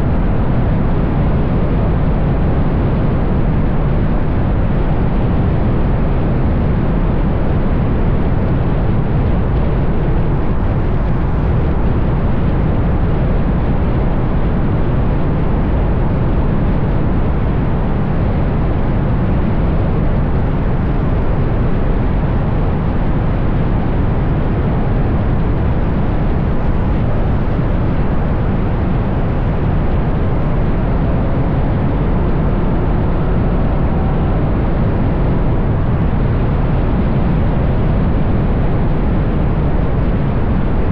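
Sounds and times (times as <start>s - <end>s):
wind rush: 0.0s - 40.9s.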